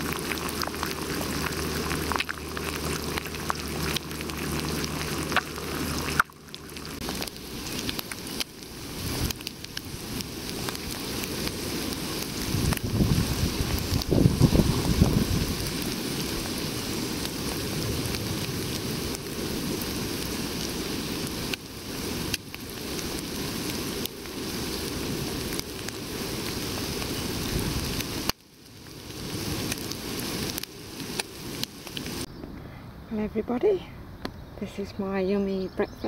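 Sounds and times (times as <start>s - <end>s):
food sizzling in frying pan: 0.0s - 32.3s.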